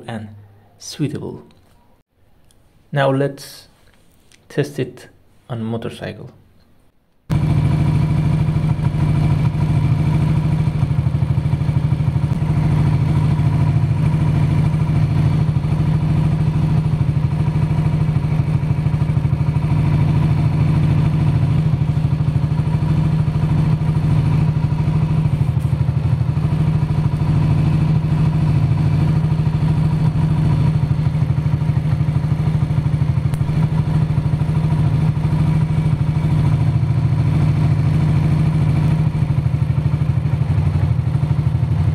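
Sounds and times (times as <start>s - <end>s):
motorcycle engine idling: 7.3s - 41.9s.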